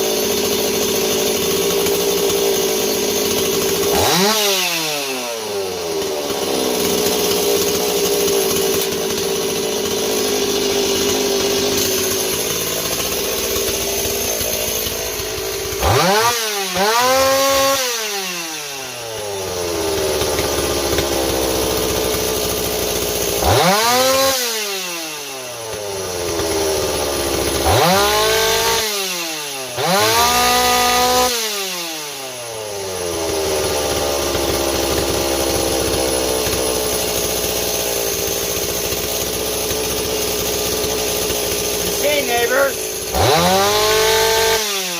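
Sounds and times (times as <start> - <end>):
chainsaw idling and revving: 0.0 - 44.9.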